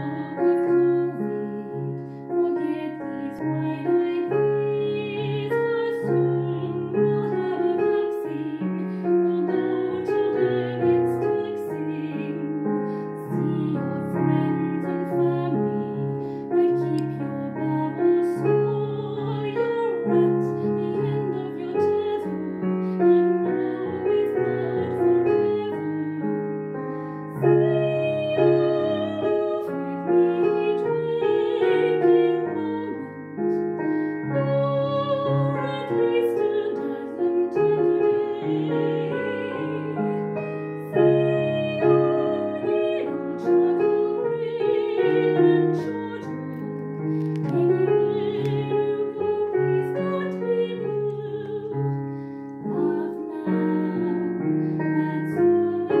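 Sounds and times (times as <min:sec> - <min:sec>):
digital piano playing a slow ballad: 0:00.0 - 0:56.0.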